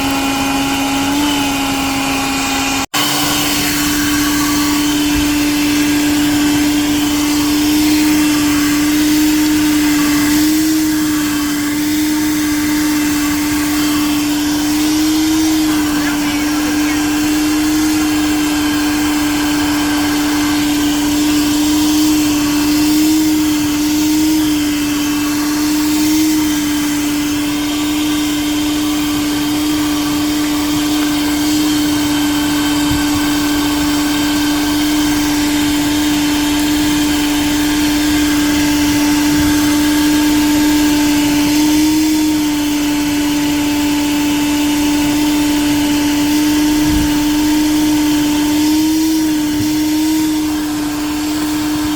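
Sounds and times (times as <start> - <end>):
vacuum motor whine: 0.0 - 51.9.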